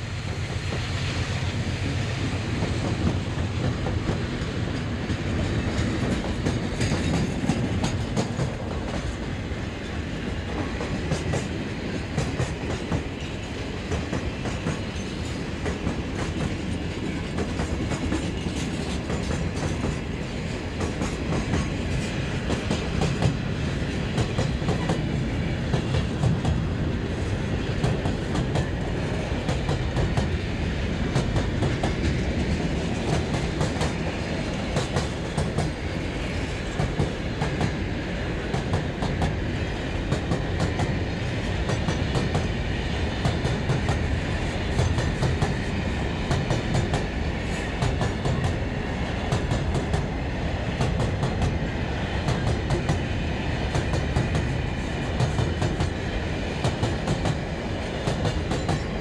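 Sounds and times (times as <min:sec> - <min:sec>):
subway car rumble: 0:00.0 - 0:59.0
wheels clickety-clack over rails: 0:00.1 - 0:59.0.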